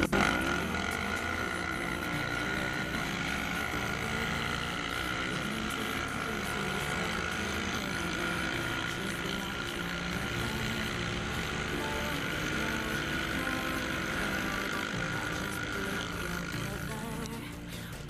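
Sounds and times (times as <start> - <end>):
quad bike engine under throttle: 0.0 - 18.0.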